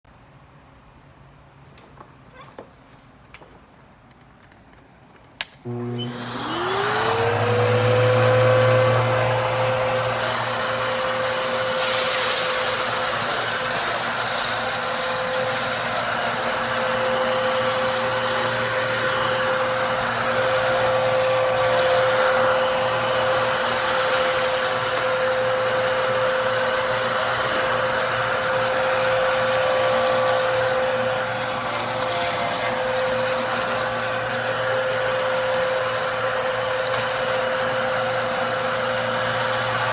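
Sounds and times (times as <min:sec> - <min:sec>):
vacuum cleaner motor whine: 0:05.6 - 0:39.9.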